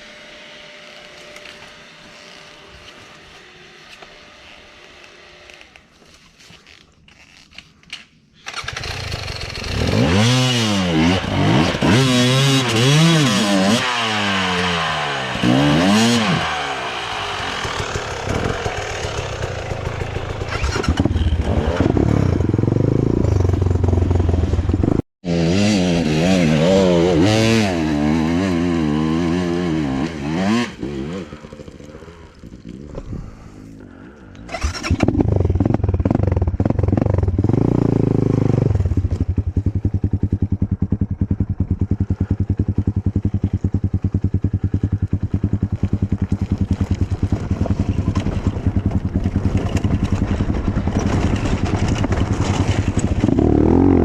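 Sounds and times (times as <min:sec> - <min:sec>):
motorcycle engine revving: 0:08.5 - 0:54.0.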